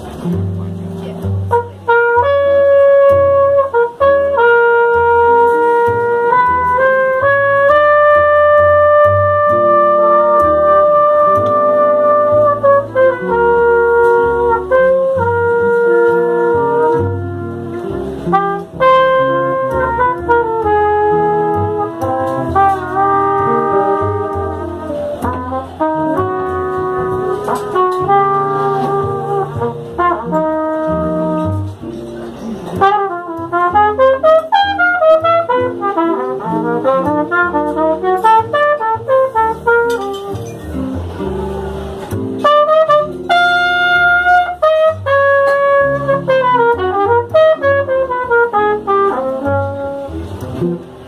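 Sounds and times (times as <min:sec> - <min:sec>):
double bass: 0:00.0 - 0:51.0
guitar: 0:00.0 - 0:51.0
trumpet and cornet melody: 0:01.0 - 0:51.0
horn playing quick short notes: 0:01.5 - 0:50.8.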